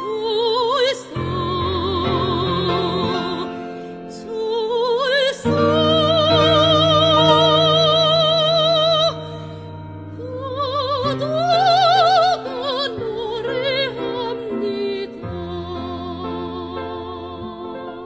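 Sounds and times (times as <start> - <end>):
soprano singing operatically: 0.0 - 18.0.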